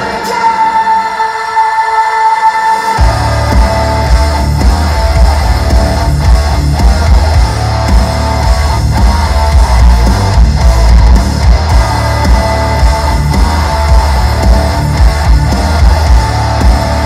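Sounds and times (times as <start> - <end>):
heavy metal song: 0.0 - 17.0.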